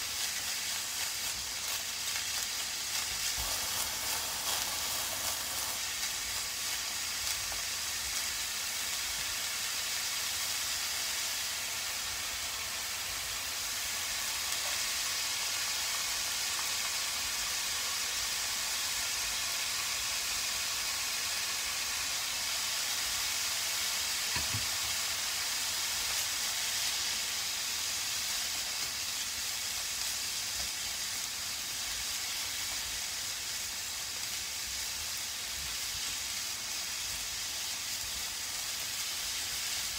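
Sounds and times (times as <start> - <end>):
vegetables sizzling in a frying pan: 0.0 - 39.9.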